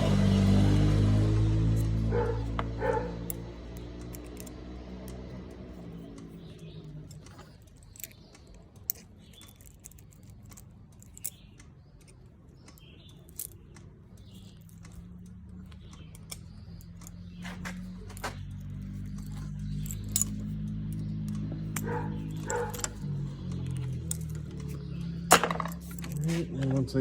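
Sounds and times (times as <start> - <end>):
metallic clicks from handling tools: 2.5 - 26.8.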